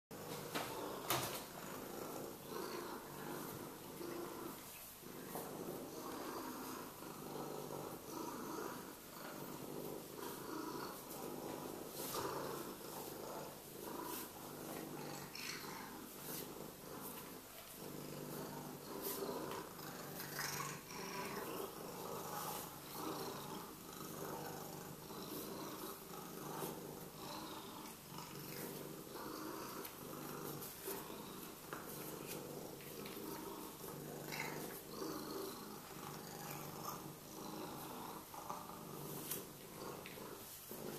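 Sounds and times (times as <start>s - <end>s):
cat purring: 0.1s - 40.9s.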